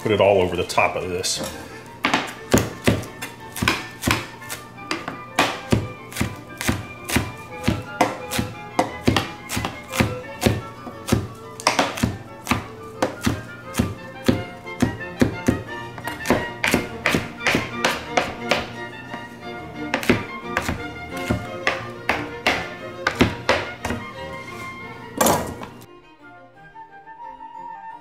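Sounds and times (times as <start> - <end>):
music playing: 0.0 - 28.0
knife chopping on plastic board: 1.4 - 24.2, 25.2 - 25.8.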